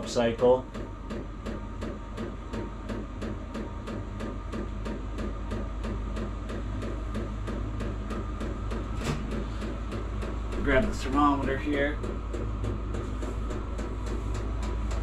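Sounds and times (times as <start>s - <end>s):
heater fan whirring: 0.0s - 15.0s.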